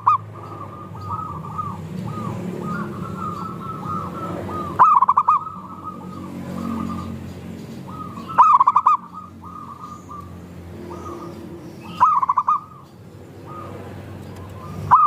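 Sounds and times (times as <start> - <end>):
loud close dove coo: 0.0 - 7.2, 7.8 - 12.8, 13.4 - 15.0
doves cooing: 0.0 - 15.0.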